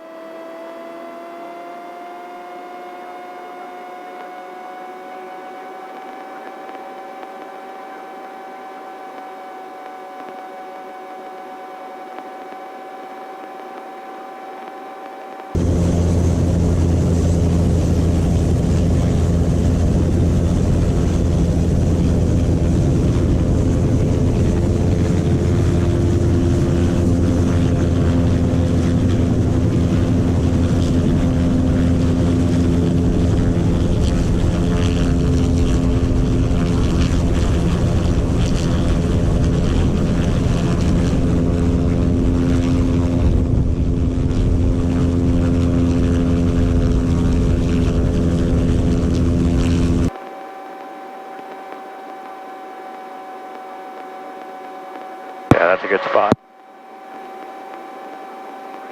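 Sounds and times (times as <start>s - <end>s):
helicopter engine and rotor: 1.3s - 58.9s.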